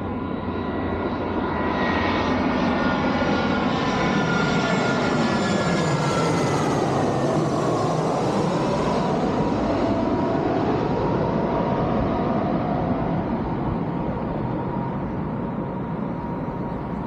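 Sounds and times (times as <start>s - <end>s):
airplane passing by: 0.0s - 17.0s.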